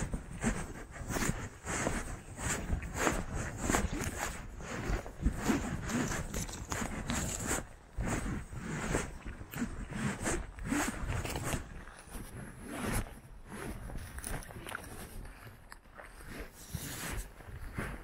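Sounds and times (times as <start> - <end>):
footsteps on moss and shrubs: 0.0 - 9.4, 10.0 - 18.0.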